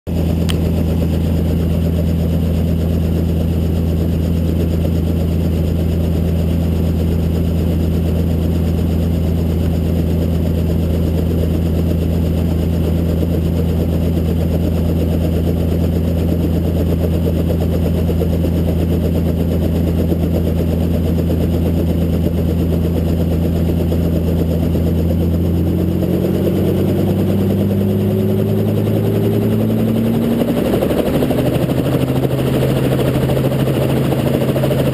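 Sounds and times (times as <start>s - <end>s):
helicopter engine and rotor drone: 0.1s - 34.9s.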